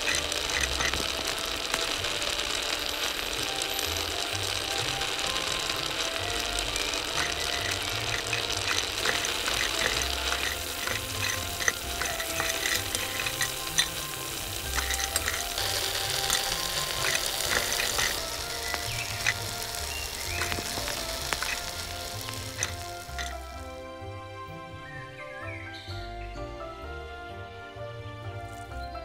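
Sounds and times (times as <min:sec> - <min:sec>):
utensil clicking in pan: 0:00.0 - 0:23.6
hot oil sizzling: 0:00.0 - 0:24.0.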